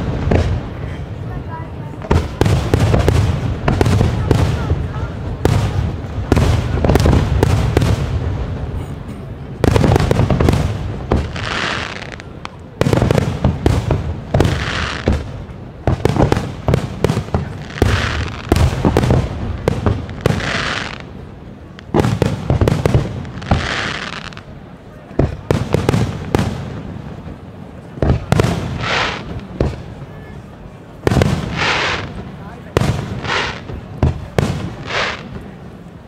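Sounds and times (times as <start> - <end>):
fireworks booming bursts: 0.0 - 36.0
fireworks crackling bangs: 0.0 - 36.0
fireworks hissing rush: 0.0 - 36.0.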